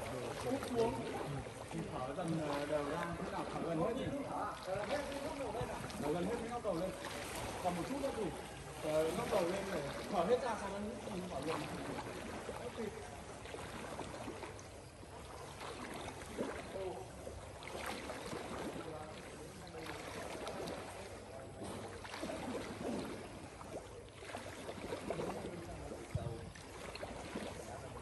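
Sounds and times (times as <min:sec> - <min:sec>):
pool water splashing: 0:00.0 - 0:28.0.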